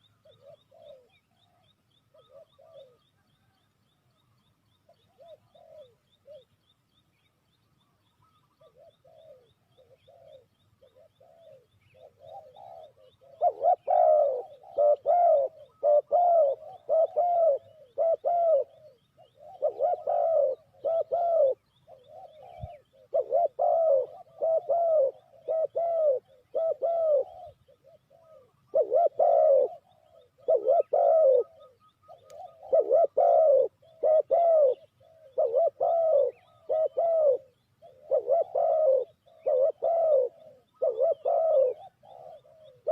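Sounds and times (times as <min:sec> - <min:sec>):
dove cooing: 0:00.0 - 0:03.7, 0:04.8 - 0:06.7, 0:07.8 - 0:42.9.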